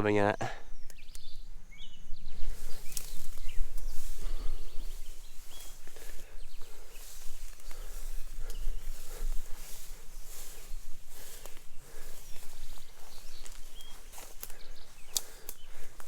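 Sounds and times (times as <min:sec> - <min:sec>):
footsteps outdoors: 0:00.0 - 0:16.0
faint chirps: 0:00.3 - 0:16.0.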